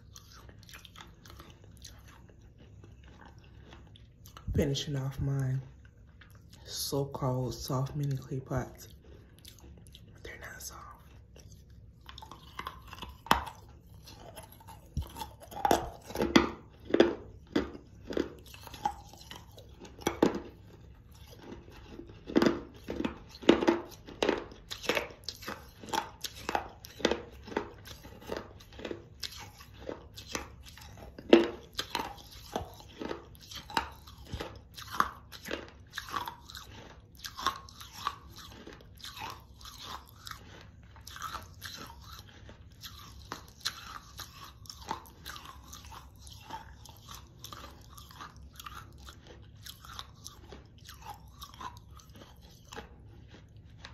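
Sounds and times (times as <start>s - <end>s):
crunching and chewing clay: 0.0s - 53.9s.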